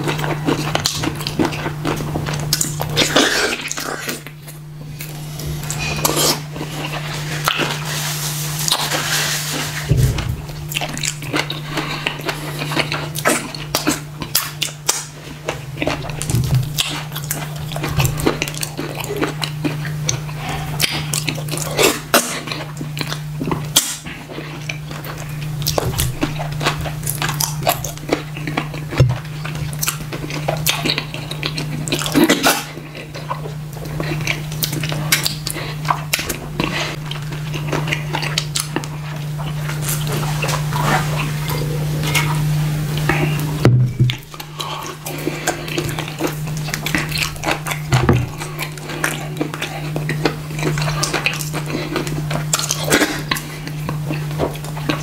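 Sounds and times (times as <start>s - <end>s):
steady low hum: 0.0s - 55.0s
wet chewing and slurping: 0.0s - 55.0s.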